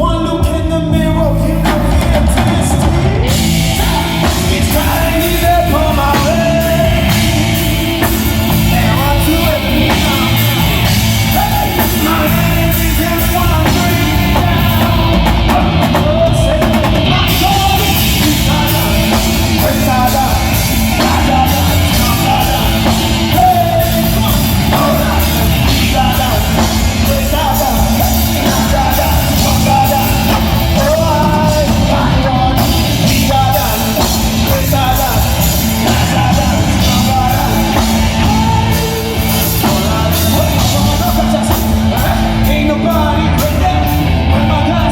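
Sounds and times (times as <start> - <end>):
live gospel band playing: 0.0 - 44.9
person singing: 0.0 - 44.9.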